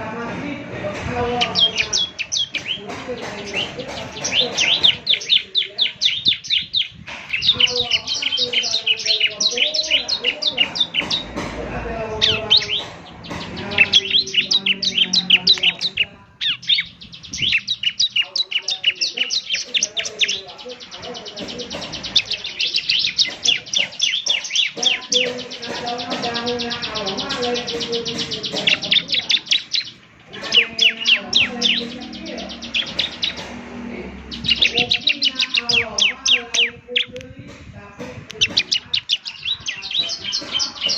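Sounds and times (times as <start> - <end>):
bird chirping and trilling: 1.0 - 40.9.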